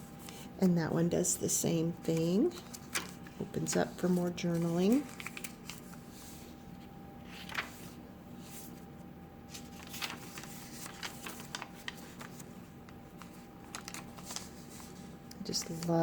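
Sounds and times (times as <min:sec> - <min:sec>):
faint steady hum: 0:00.0 - 0:16.0
paper pages rustling: 0:00.2 - 0:00.5, 0:02.0 - 0:08.9, 0:09.5 - 0:16.0.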